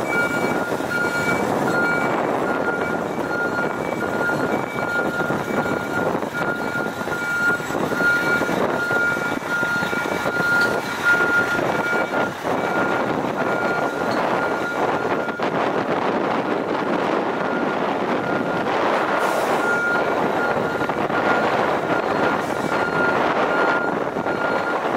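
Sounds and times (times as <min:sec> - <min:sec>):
truck diesel engine pulling away: 0:00.0 - 0:24.9.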